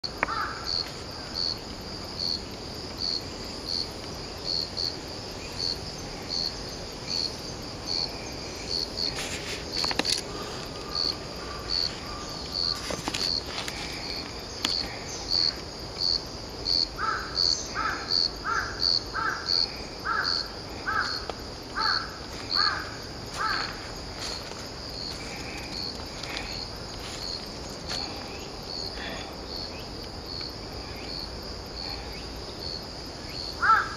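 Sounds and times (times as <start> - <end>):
cricket chirping: 0.0 - 33.9
lower louder insect calls: 0.0 - 33.9.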